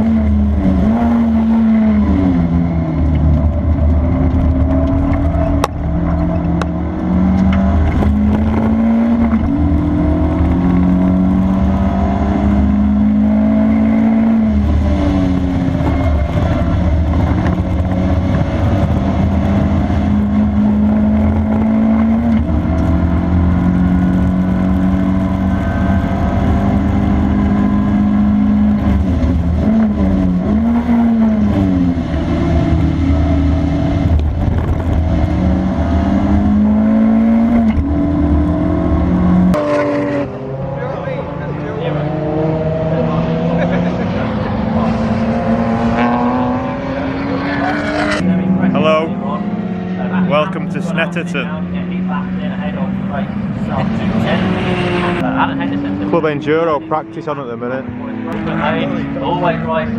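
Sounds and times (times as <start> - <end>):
car engine accelerating hard: 0.0 - 59.9
low road rumble: 0.0 - 59.9.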